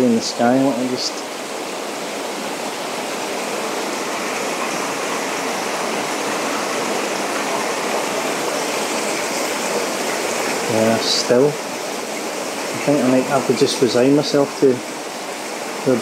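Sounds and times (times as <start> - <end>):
waterfall splashing over rocks: 0.0 - 16.0.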